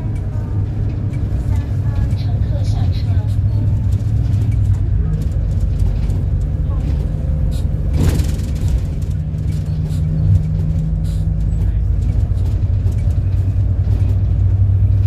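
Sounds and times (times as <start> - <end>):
bus engine running: 0.0 - 15.0
road noise: 0.0 - 15.0
sharp clatter: 1.9 - 14.6.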